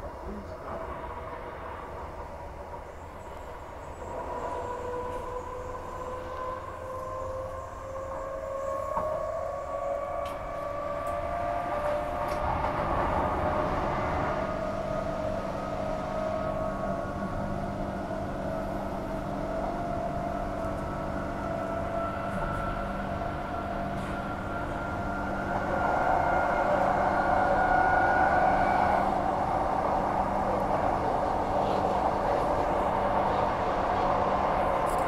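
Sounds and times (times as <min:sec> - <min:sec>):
train running noise: 0:00.0 - 0:35.0.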